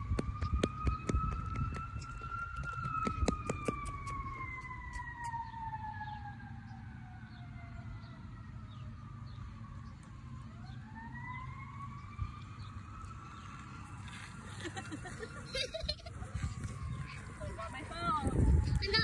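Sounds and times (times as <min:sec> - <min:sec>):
siren wailing: 0:00.0 - 0:19.0.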